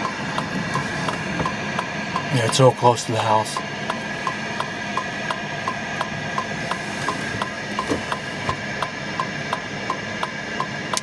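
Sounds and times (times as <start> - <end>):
electrical hum: 0.0 - 9.9.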